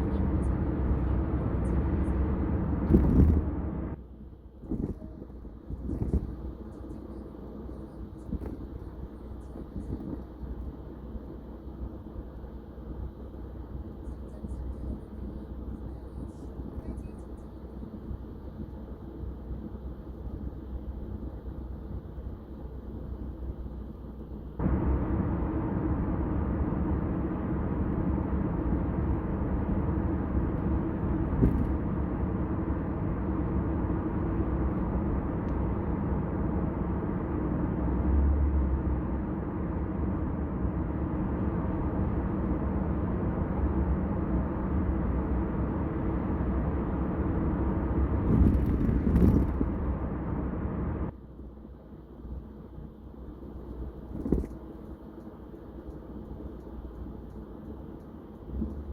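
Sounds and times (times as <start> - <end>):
car driving at highway speed: 0.0 - 58.9.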